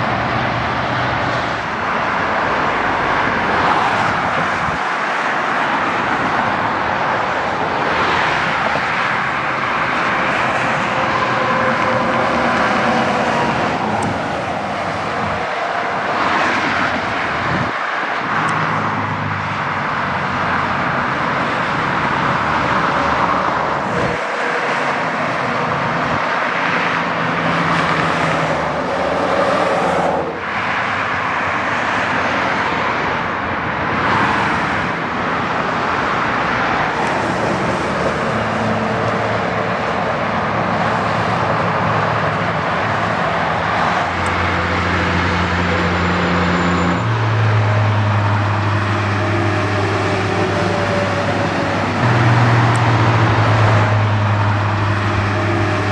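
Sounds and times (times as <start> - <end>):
diesel truck engines humming: 0.0 - 55.9
tyre roar of traffic: 0.0 - 55.9.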